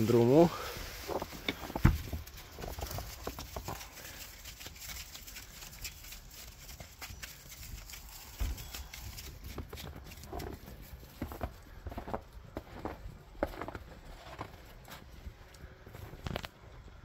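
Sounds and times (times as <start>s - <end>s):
sheep hooves tapping: 0.0s - 16.2s.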